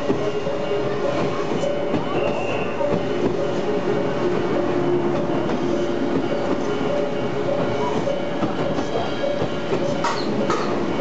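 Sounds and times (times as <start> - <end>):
train wheels clicking over rail joints: 0.0 - 11.0
two-tone crossing warning bell: 0.0 - 11.0.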